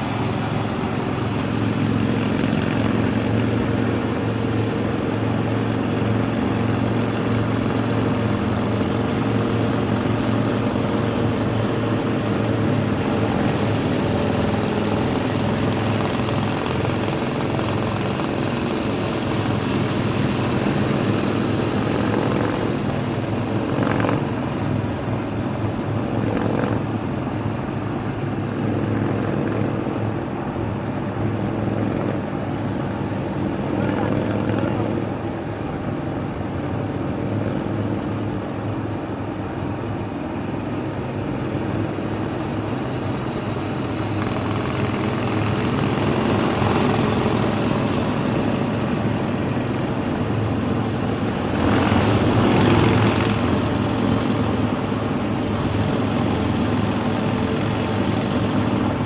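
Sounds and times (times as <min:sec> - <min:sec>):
motorcycle engines droning: 0:00.0 - 0:59.0
road and wind noise: 0:00.0 - 0:59.0.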